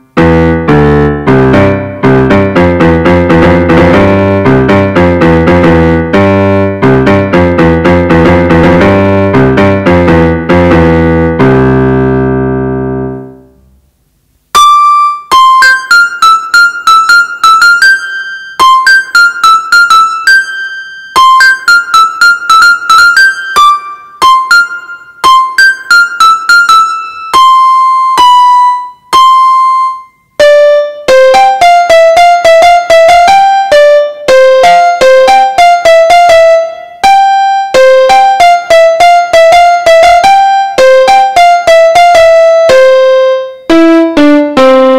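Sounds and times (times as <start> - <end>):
keyboard piano melody: 0.0 - 13.8, 14.6 - 44.9.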